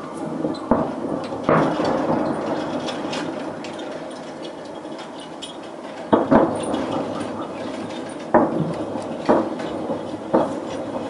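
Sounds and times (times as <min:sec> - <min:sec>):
crackling sparks: 0:00.0 - 0:11.0
firework shells booming: 0:00.0 - 0:11.0.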